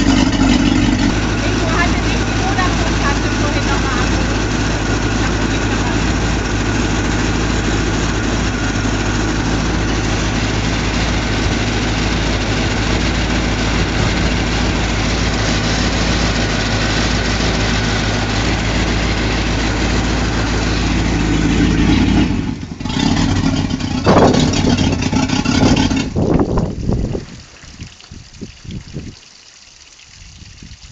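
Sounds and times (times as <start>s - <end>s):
boat engine idling: 0.0s - 27.5s
rough loud exhaust noise: 0.0s - 28.2s
water splashing: 0.0s - 30.9s.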